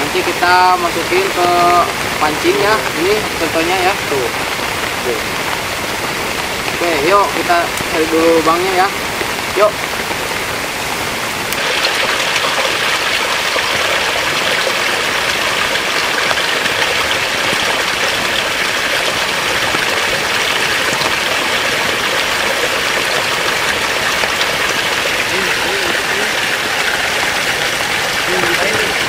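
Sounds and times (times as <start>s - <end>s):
rushing water: 0.0s - 29.0s.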